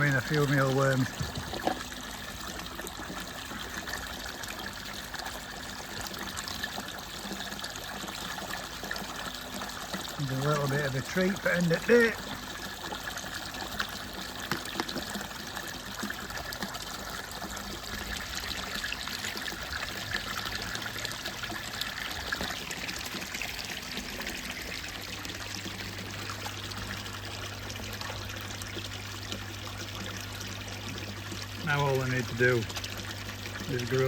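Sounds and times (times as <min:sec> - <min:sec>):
low steady hum: 0:00.0 - 0:34.0
water trickling into pond: 0:00.0 - 0:34.0
small clicks and splashes: 0:00.1 - 0:34.0.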